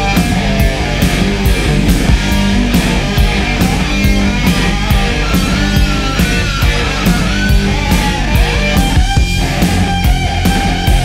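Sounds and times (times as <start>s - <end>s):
rock music with guitar: 0.0s - 11.0s
steady drum beat: 0.0s - 11.0s.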